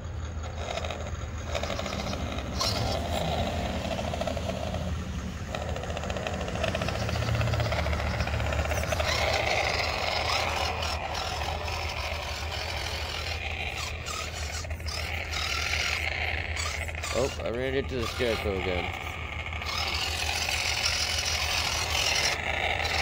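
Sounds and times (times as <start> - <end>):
electric motor whirring: 0.0 - 23.0.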